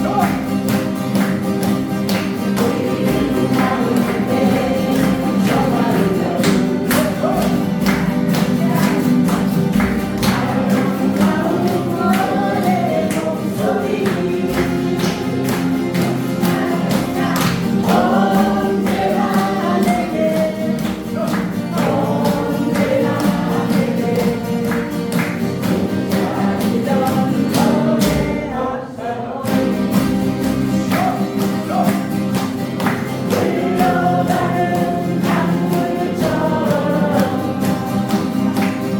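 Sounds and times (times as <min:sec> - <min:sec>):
group singing together: 0:00.0 - 0:38.9
strummed acoustic guitars: 0:00.0 - 0:38.9.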